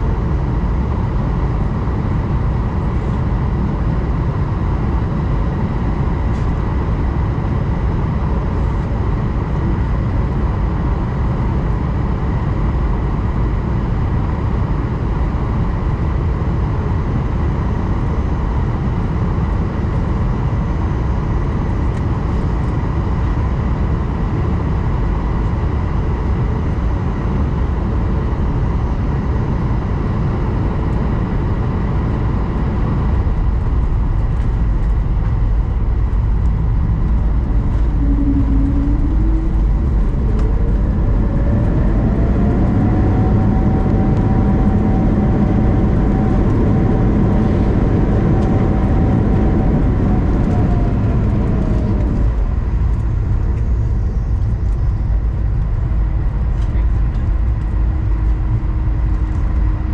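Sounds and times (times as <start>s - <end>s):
airliner cabin engine roar: 0.0s - 59.9s
faint steady whine: 0.0s - 59.9s.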